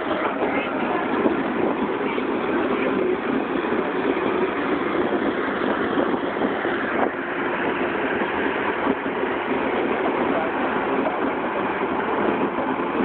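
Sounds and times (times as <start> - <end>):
wheel loader diesel engine: 0.0 - 13.0.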